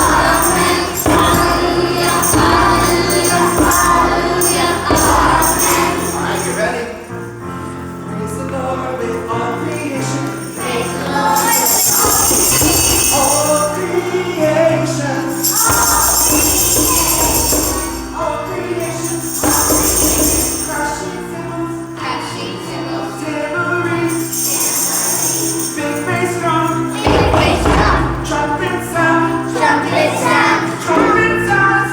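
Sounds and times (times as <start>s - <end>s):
children's choir singing: 0.0s - 31.9s
instrumental accompaniment: 0.0s - 31.9s
jingling shaken percussion: 0.0s - 31.9s.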